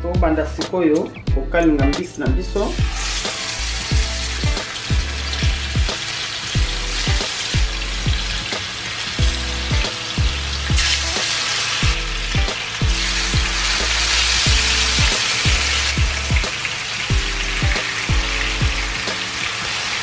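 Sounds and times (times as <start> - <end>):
background music with steady beat: 0.0 - 20.0
fish sizzling in hot oil: 2.7 - 20.0.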